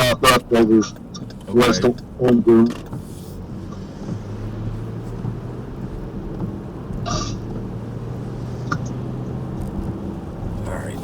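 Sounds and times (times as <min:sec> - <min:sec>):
road noise: 0:00.0 - 0:11.0
vehicle engine drone: 0:00.0 - 0:11.0.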